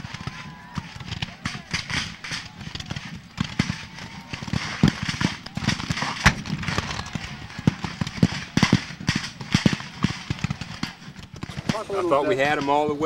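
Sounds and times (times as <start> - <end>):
musket shots: 0.0 - 12.2.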